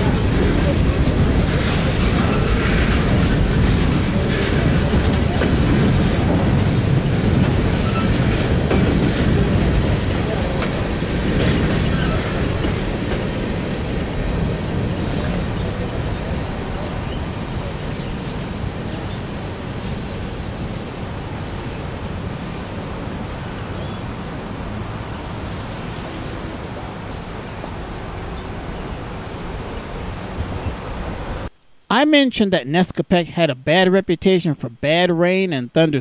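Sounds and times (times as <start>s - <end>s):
train wheels rumbling on track: 0.0s - 31.4s.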